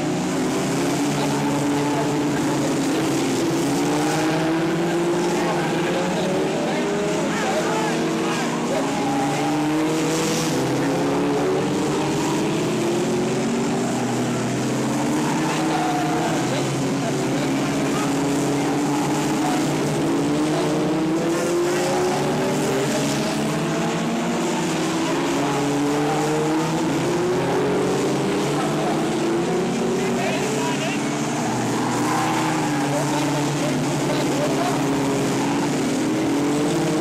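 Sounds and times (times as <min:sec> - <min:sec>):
race car engine revving: 0:00.0 - 0:37.0.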